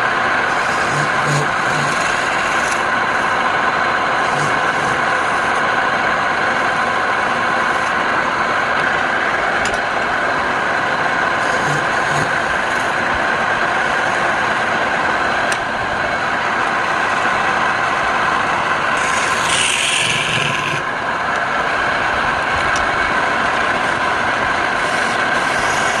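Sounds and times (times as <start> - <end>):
wood lathe running: 0.0 - 26.0.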